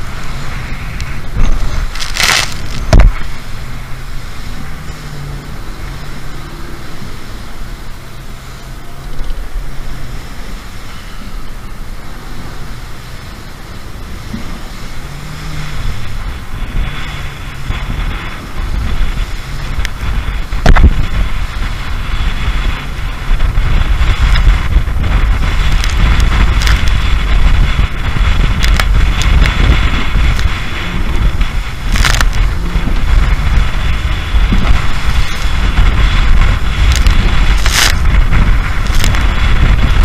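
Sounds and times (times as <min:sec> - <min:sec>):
boat hull rumble: 0:00.0 - 0:40.0
outboard engine: 0:00.0 - 0:40.0
wind buffeting microphone: 0:00.0 - 0:40.0.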